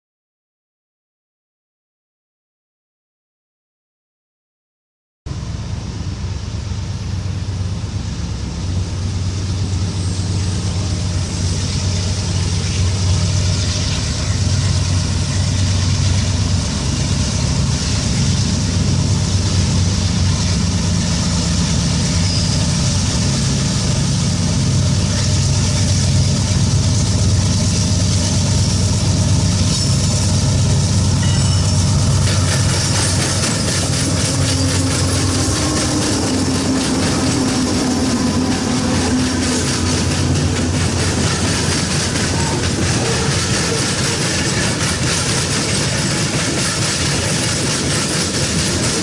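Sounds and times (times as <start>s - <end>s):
diesel locomotives engine drone: 5.3s - 49.0s.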